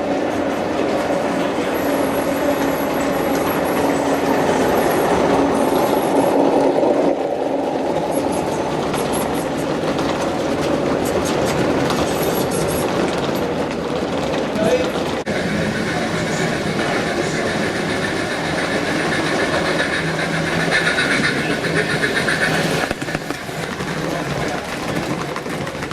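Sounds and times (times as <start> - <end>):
model train wheels rumbling on rail: 0.0 - 25.9.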